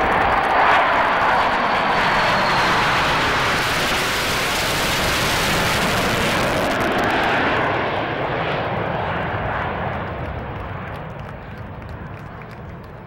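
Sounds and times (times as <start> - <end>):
jet engines roaring in flyover: 0.0 - 13.0.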